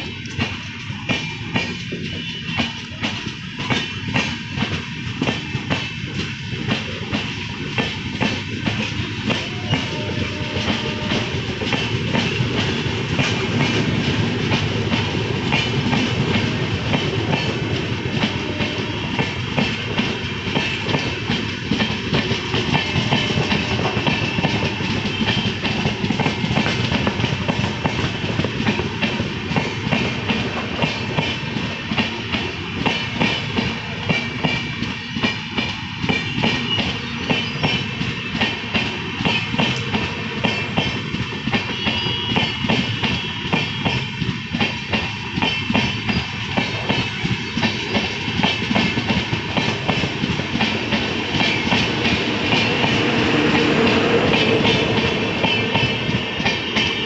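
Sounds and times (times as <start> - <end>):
train rumble: 0.0 - 57.0
train wheels clicking: 0.0 - 57.0.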